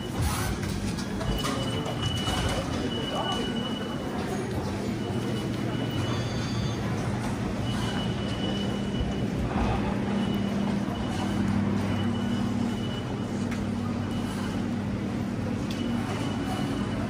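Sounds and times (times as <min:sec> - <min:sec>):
electric train idling hum: 0:00.0 - 0:17.0.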